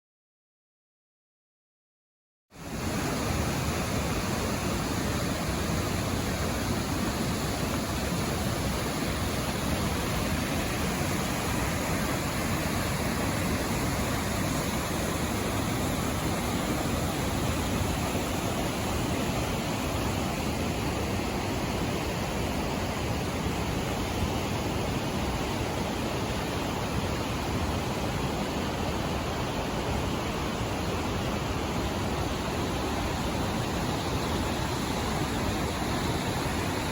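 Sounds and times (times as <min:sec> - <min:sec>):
river water rushing: 0:02.6 - 0:36.9.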